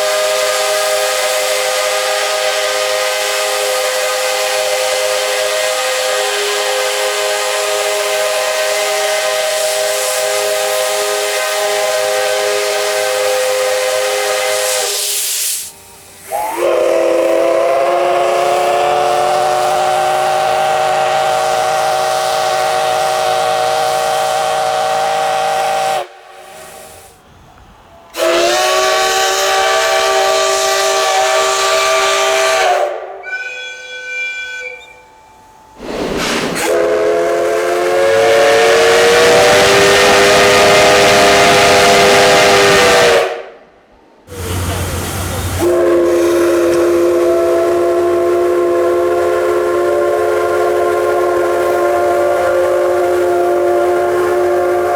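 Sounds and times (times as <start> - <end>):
steam locomotive whistle blasts: 0.0 - 27.2, 28.1 - 54.9
steam hiss: 0.0 - 43.6, 44.3 - 54.9.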